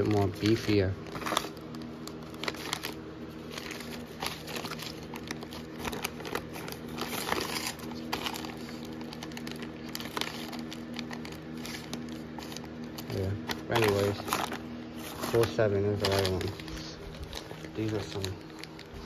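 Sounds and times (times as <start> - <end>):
plastic bags crinkling: 0.0 - 19.0
steady low hum: 0.0 - 19.0.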